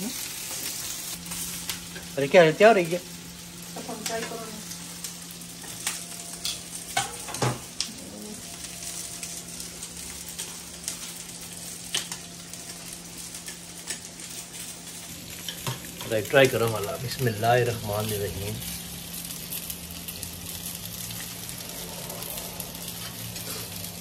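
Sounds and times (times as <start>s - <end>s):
oil sizzling in a pan: 0.0s - 24.0s
steady low hum: 0.0s - 24.0s.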